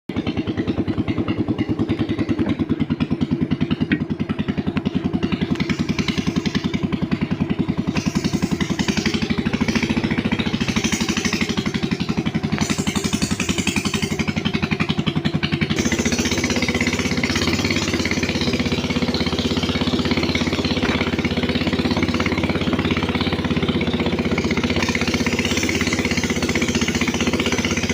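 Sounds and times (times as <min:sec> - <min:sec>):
boat engine running: 0:00.1 - 0:27.9.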